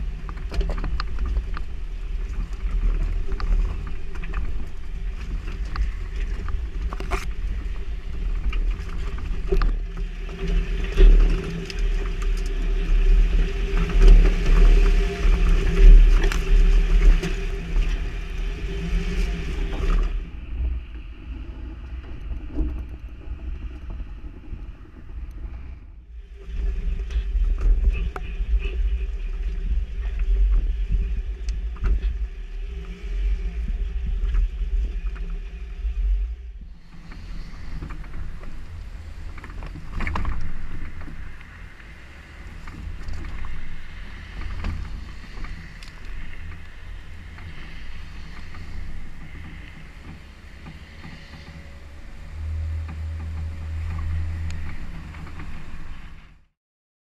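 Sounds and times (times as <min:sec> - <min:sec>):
low engine rumble: 0:00.0 - 0:56.6.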